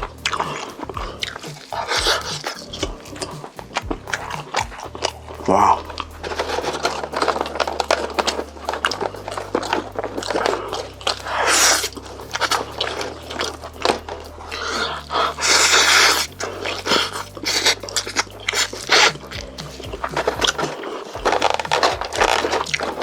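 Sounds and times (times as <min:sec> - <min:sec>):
mouth clicks: 0:00.0 - 0:23.0
wet chewing and mouth smacking: 0:00.0 - 0:23.0.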